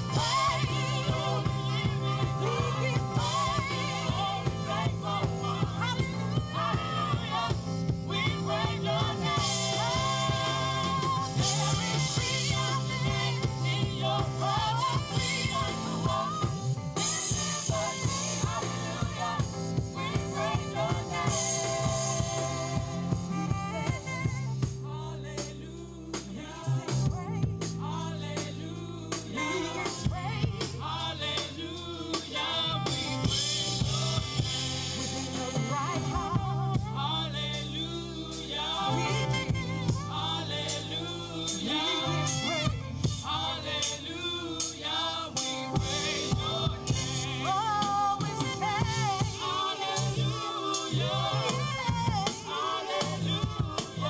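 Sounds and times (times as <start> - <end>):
bass guitar: 0.0 - 54.0
drum kit beat: 0.0 - 54.0
woman singing lead: 0.0 - 54.0
women singing along: 0.0 - 54.0.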